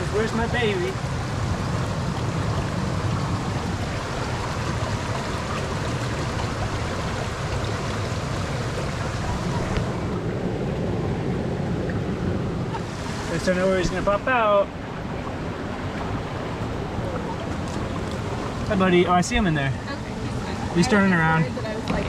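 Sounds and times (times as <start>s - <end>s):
water rushing in rocky stream: 0.0s - 22.0s.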